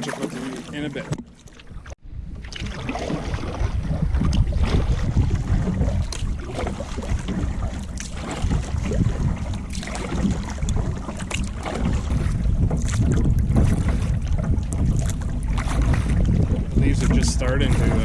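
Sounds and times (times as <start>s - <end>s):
paddle splashes: 0.0s - 18.0s
wind buffeting microphone: 1.7s - 18.0s.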